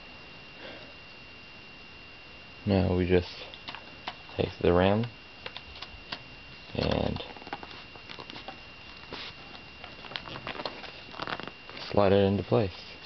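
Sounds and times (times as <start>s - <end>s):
steady high-pitched tone: 0.0s - 13.0s.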